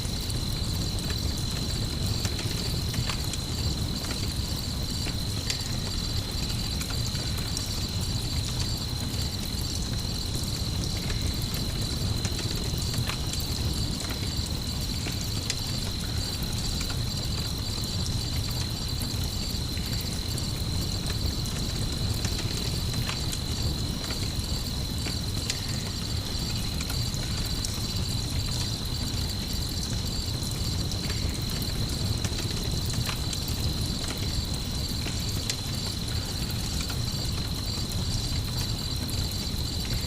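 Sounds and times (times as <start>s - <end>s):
campfire crackling and popping: 0.0s - 40.0s
crickets chirping: 0.0s - 40.0s.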